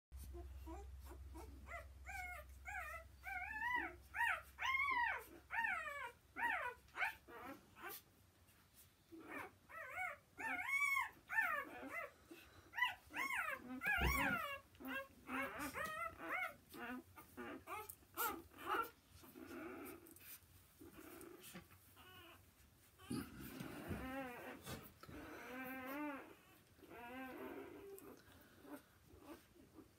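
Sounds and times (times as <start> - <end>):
puppies squeaking and whimpering: 0.2 - 29.9.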